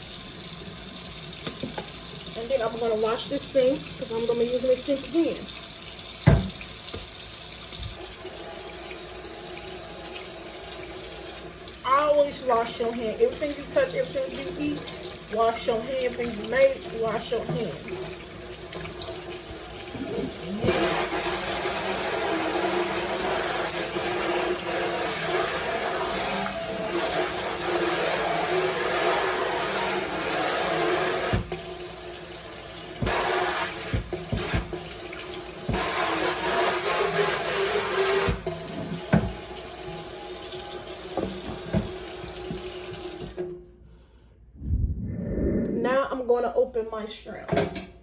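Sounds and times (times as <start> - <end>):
faucet water splashing into sink: 0.0 - 43.4.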